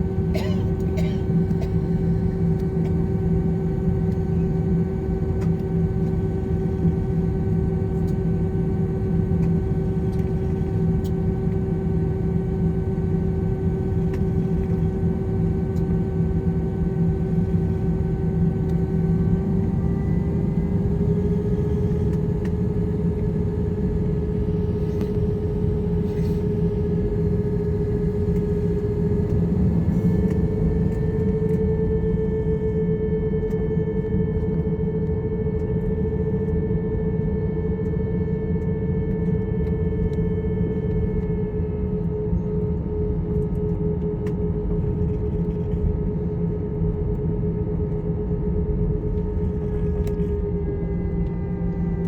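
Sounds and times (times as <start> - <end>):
jet engines heard from cabin: 0.0 - 52.0.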